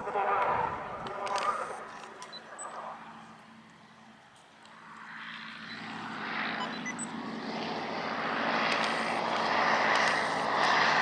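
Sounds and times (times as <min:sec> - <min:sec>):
plane approaching: 0:00.0 - 0:11.0.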